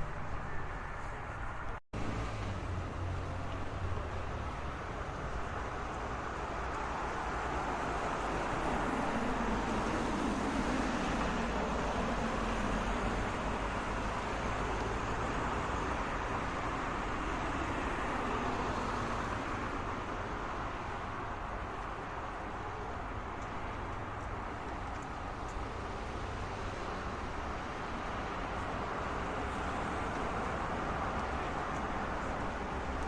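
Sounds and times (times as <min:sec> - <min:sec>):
passing cars: 0:00.0 - 0:33.0.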